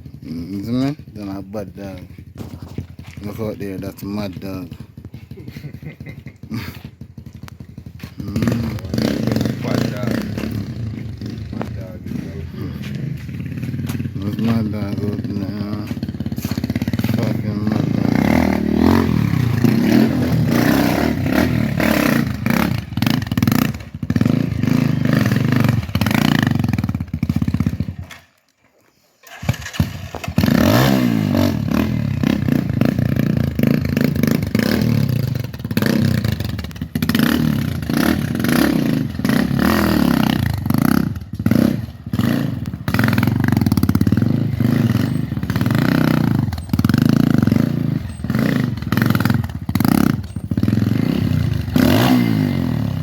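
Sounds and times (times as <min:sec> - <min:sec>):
motorcycle engine revving unevenly: 0:00.0 - 0:28.3, 0:29.3 - 0:53.0.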